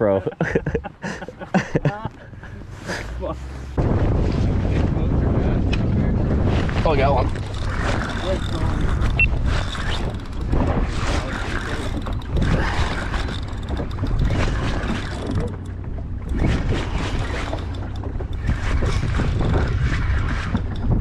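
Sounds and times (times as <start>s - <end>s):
boat on water: 0.0s - 21.0s
wind buffeting microphone: 0.0s - 21.0s.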